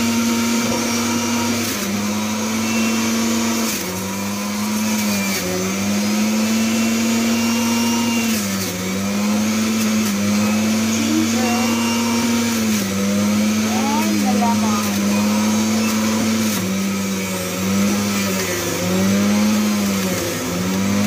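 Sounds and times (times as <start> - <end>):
electric juicer motor running: 0.0 - 21.0.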